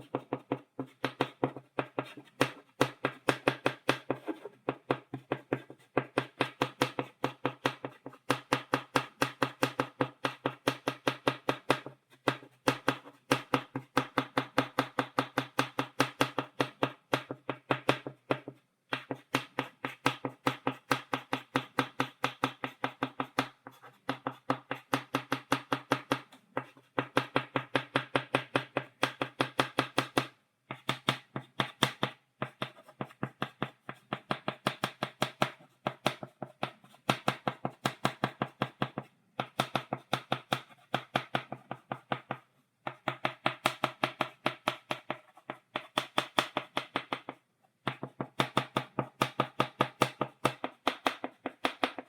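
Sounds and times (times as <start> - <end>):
chalk tapping on blackboard: 0.0 - 52.0.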